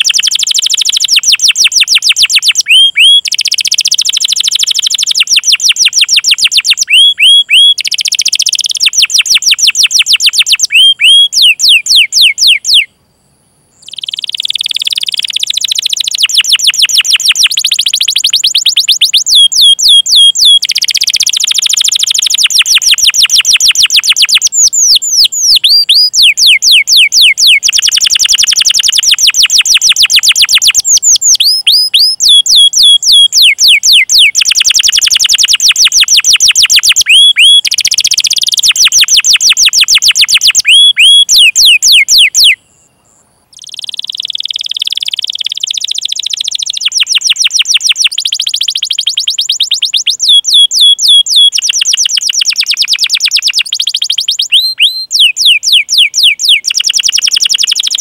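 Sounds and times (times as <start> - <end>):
canary chirps: 0.0 - 12.9, 13.7 - 58.0
canary trilling: 0.0 - 12.9, 13.8 - 42.6, 43.5 - 58.0.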